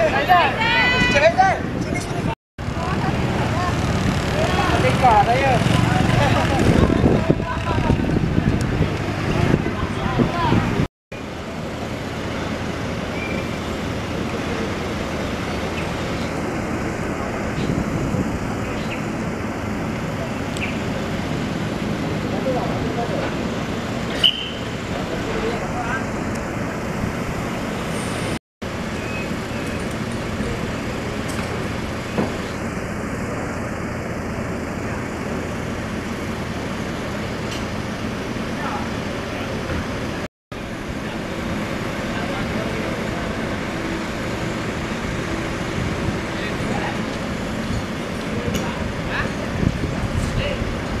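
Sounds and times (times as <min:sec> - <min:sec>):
street noise: 0:00.0 - 0:51.0
truck engine rumbling: 0:00.0 - 0:51.0.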